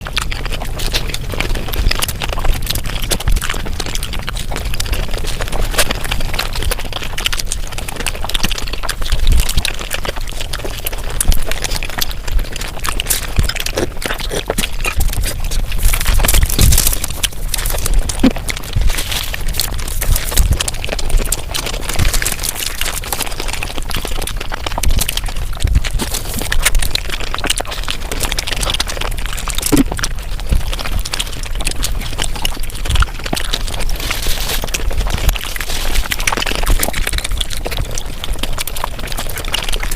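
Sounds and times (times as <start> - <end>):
rapid chewing and crunching: 0.0 - 39.9.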